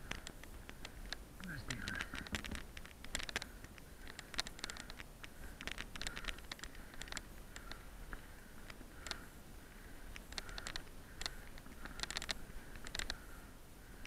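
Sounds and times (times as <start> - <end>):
bike rattle: 0.0 - 9.3, 10.3 - 13.4
bicycle rolling on gravel: 0.0 - 13.5.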